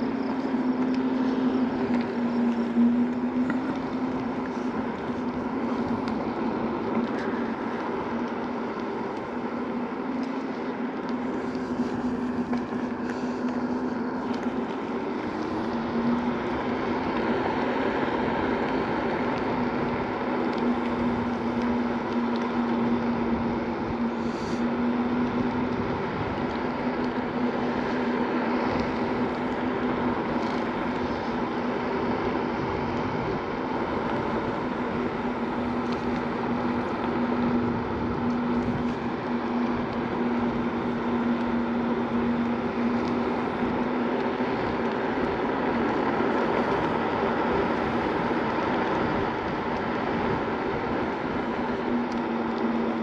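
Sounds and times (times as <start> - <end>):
electric scooter humming: 0.0 - 53.0
tyre noise on coarse path: 0.0 - 53.0.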